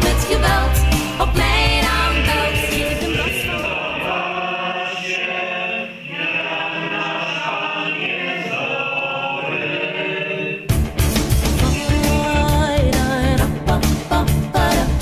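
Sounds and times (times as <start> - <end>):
choir singing a hymn: 0.0 - 10.7, 13.4 - 15.0.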